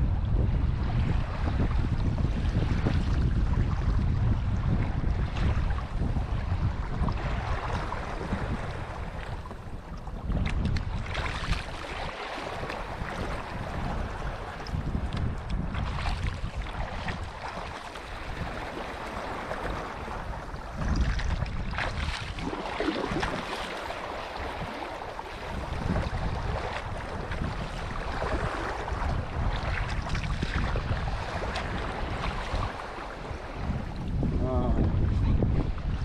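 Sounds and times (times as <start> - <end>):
water splashing along hull: 0.0 - 36.0
wind buffeting microphone: 0.0 - 36.0.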